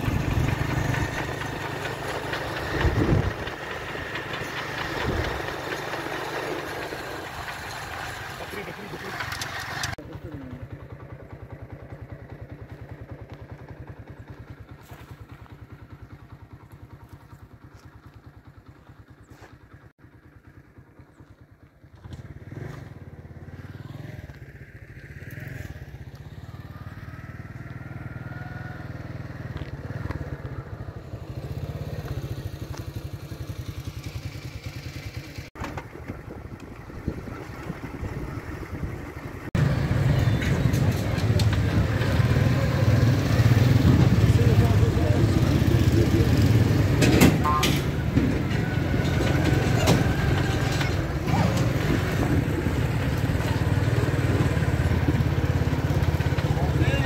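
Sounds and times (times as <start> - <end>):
small motorcycle engine running: 0.0 - 57.0.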